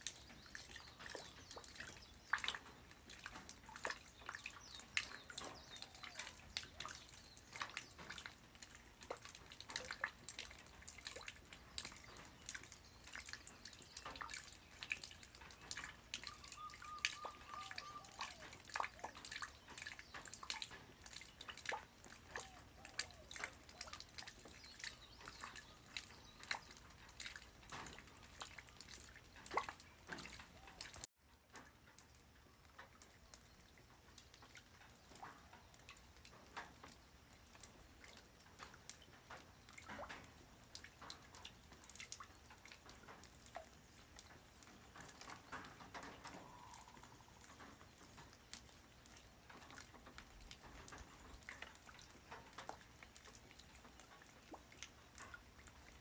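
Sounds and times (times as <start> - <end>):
faint rain hiss: 0.0 - 56.0
rain drops striking ground: 0.0 - 56.0.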